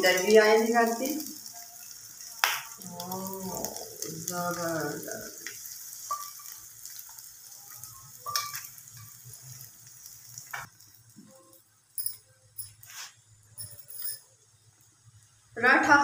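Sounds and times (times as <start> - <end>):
flatbread sizzling in oil: 0.0 - 15.8.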